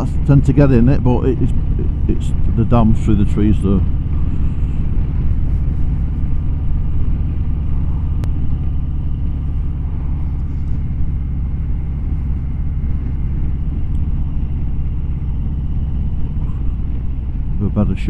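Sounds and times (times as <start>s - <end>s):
motorcycle engine and wind rush: 0.0s - 18.0s.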